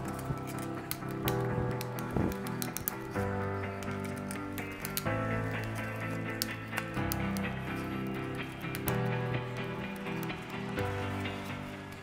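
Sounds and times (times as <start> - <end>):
background music with sustained chords: 0.0 - 12.0.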